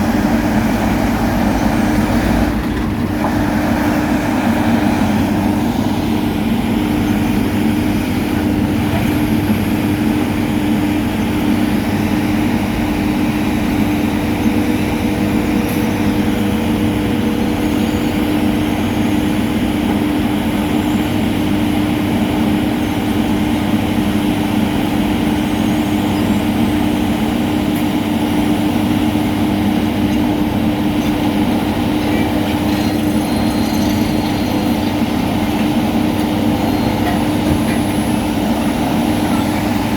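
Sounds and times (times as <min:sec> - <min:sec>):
diesel paving machinery running: 0:00.0 - 0:39.9.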